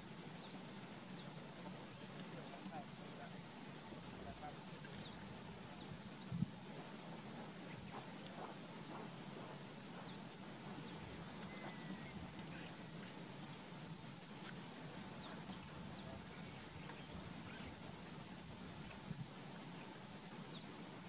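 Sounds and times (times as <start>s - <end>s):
steady low hum: 0.0s - 21.0s
wild birds chirping: 0.0s - 21.0s.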